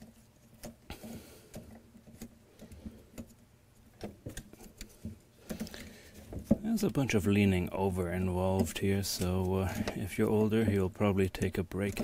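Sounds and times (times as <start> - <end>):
light clicks and knocks of hand work: 0.0 - 12.0
low steady hum: 0.0 - 12.0.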